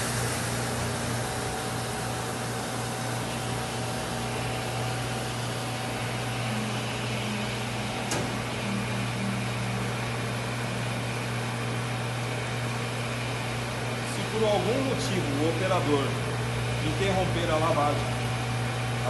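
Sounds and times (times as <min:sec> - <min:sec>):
pump hum: 0:00.0 - 0:19.0.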